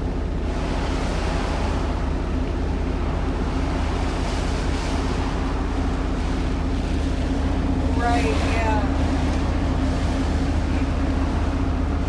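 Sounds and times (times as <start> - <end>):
low steady hum: 0.0 - 12.0
storm wind: 0.0 - 12.0.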